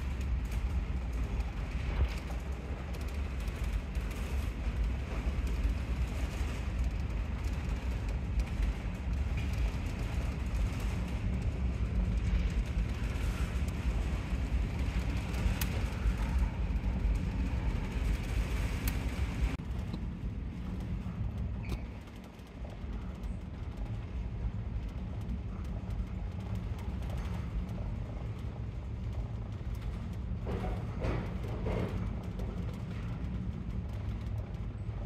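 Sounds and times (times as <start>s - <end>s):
ferry engine rumble: 0.0s - 35.0s.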